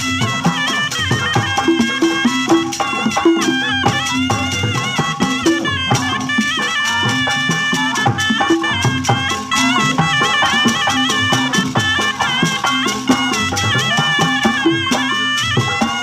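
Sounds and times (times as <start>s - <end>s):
hand drum strokes: 0.0s - 16.0s
shawm playing nasal melody: 0.0s - 16.0s.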